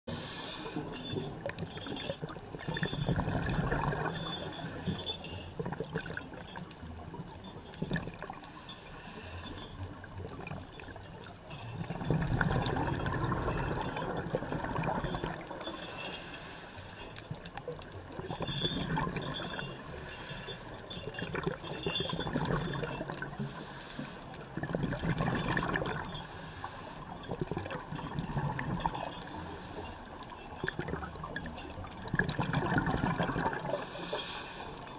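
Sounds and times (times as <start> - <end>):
underwater bubbling: 0.0 - 34.9.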